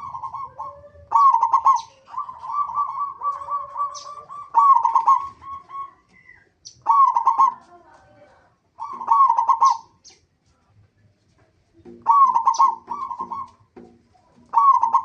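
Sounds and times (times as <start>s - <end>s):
doves cooing with clicks: 0.0s - 8.0s, 8.8s - 10.2s, 11.8s - 15.0s.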